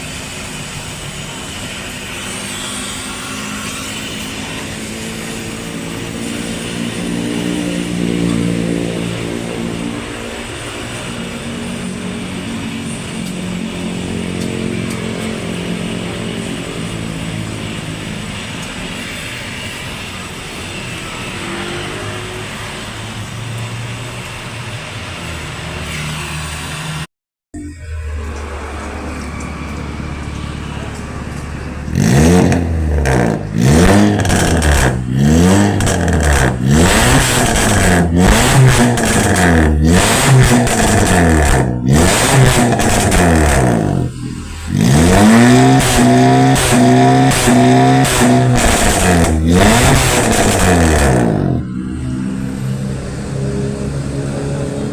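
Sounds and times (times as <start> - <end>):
car engine running through exhaust: 0.0 - 27.0, 27.6 - 54.9.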